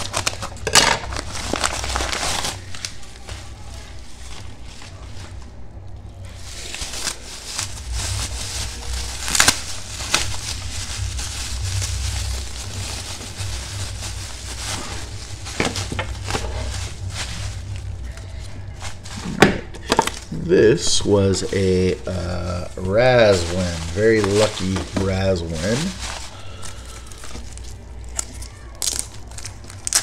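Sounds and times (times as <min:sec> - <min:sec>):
bubble wrap crinkling and crackling: 0:00.0 - 0:30.0.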